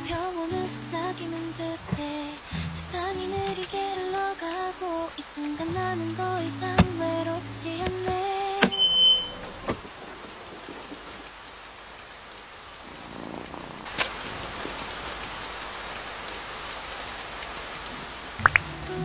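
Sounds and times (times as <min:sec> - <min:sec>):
steady rain-like hiss: 0:00.0 - 0:19.0.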